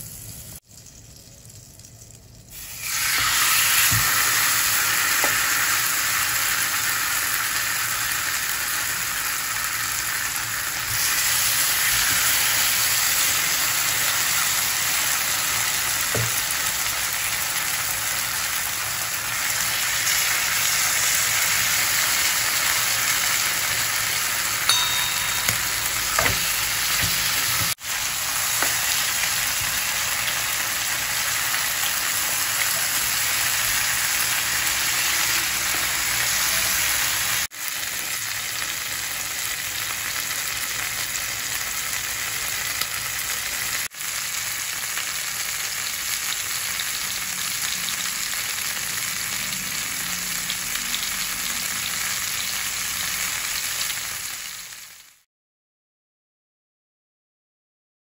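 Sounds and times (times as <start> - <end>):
chicken sizzling in grill pan: 0.0 - 55.2.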